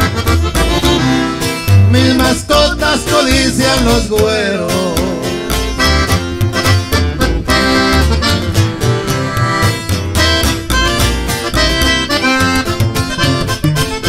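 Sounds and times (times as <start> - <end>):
accordion melody: 0.0 - 14.0
plucked upright bass: 0.0 - 14.0
strummed guitar: 0.0 - 14.0.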